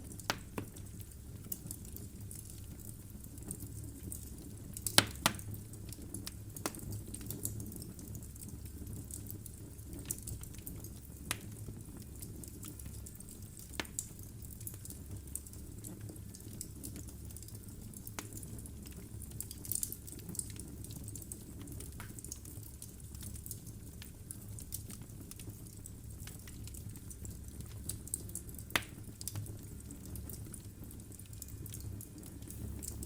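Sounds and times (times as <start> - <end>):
logs crackling and popping: 0.0 - 33.0
low rumble of flame: 0.0 - 33.0.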